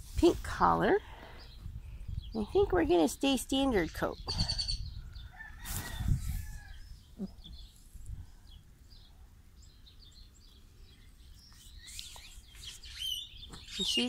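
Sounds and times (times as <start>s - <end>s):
birds chirping: 0.8s - 14.0s.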